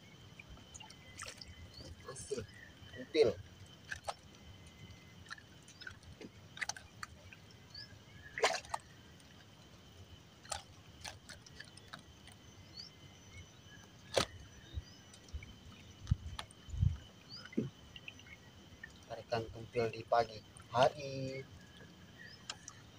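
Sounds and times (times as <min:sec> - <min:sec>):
faint high insect drone: 0:00.0 - 0:22.9
water dripping and sloshing: 0:00.2 - 0:12.5, 0:13.3 - 0:22.9.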